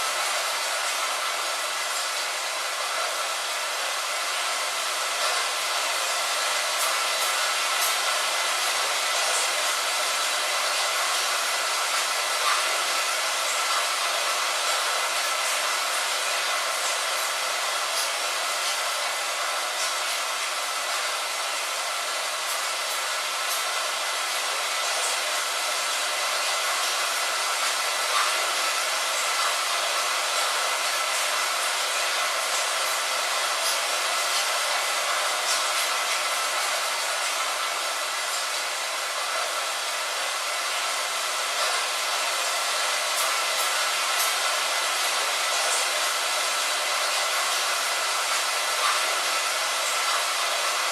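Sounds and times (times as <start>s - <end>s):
rain on a window: 0.0s - 50.9s.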